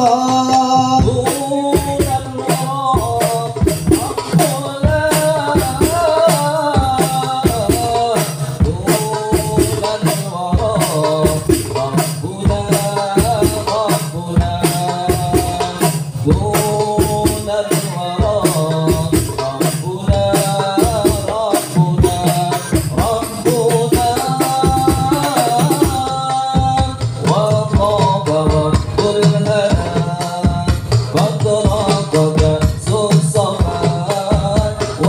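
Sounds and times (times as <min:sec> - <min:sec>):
frame drums beating fast: 0:00.0 - 0:35.0
men singing: 0:00.0 - 0:35.0.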